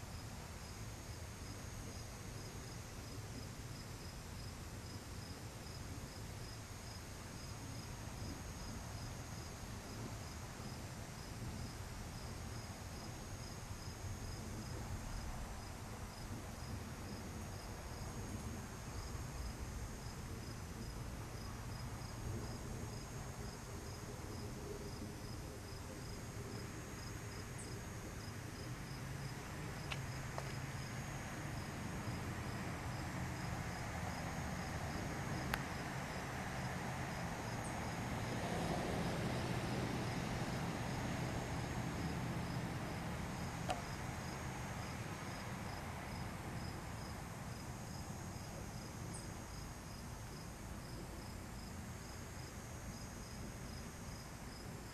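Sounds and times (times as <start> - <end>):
insect chirping: 0.1 - 38.4, 39.0 - 54.9.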